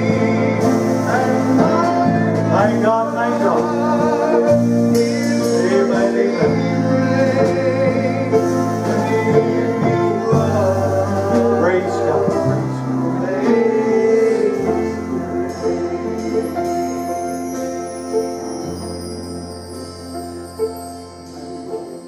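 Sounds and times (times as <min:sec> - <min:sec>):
person singing: 0:00.0 - 0:19.2
held bass notes: 0:00.0 - 0:22.0
keyboard chords: 0:00.0 - 0:22.0.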